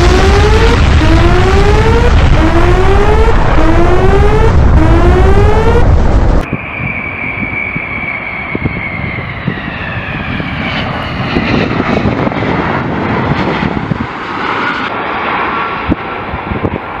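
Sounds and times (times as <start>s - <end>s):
rumble with repeating tones: 0.0s - 14.2s
jet engines roaring: 0.0s - 17.0s.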